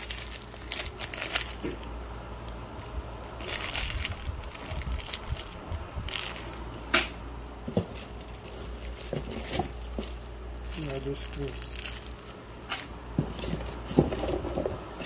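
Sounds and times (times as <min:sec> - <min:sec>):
plastic bag crinkling: 0:00.0 - 0:06.9, 0:07.6 - 0:14.7.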